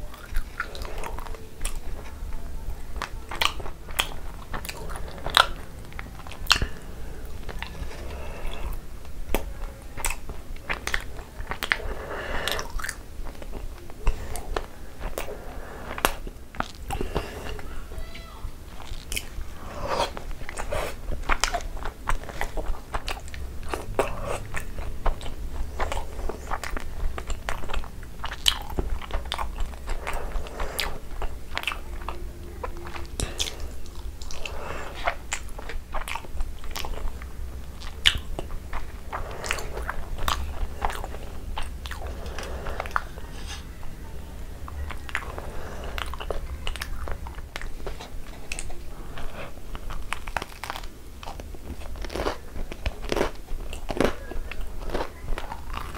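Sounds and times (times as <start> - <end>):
close chewing with mouth clicks: 0.0 - 17.9, 18.6 - 55.9.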